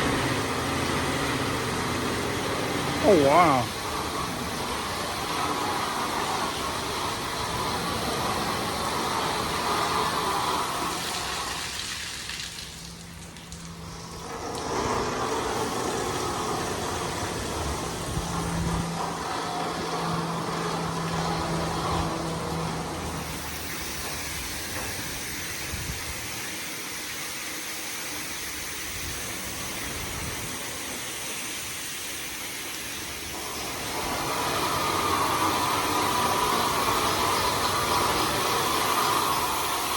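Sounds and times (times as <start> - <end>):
water jets spraying over car: 0.0 - 39.9.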